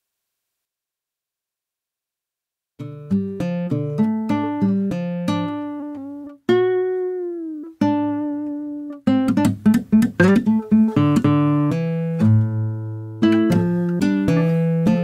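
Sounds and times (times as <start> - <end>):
bluesy nylon-string guitar line: 2.8 - 15.0.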